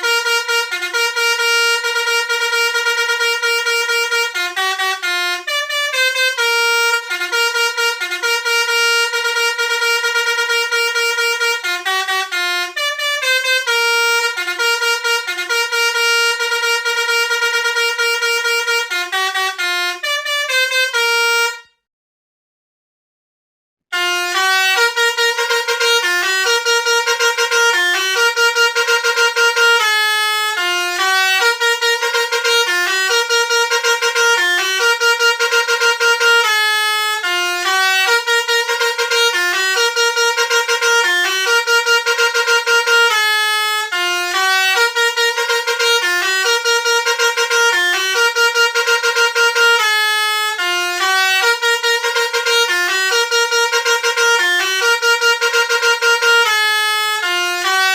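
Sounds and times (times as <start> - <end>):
bus horn playing a tune: 0.0 - 21.9, 23.9 - 57.9.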